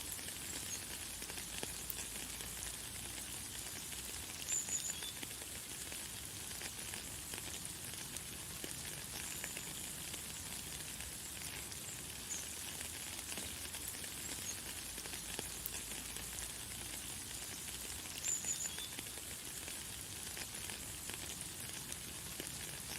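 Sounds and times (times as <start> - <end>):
light rain hissing: 0.0 - 22.9.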